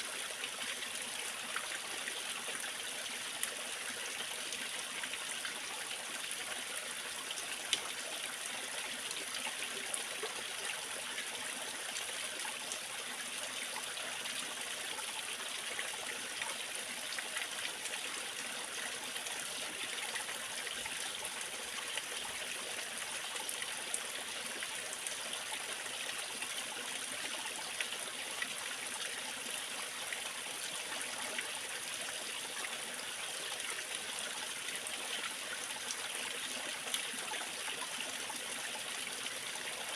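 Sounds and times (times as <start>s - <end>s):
waterfall and stream running: 0.0s - 39.9s.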